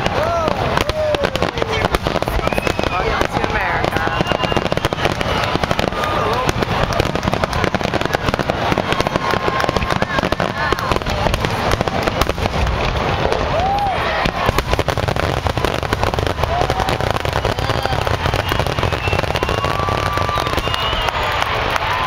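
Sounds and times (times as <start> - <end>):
fireworks bangs and crackles: 0.0 - 22.0
spectators' voices: 0.0 - 22.0.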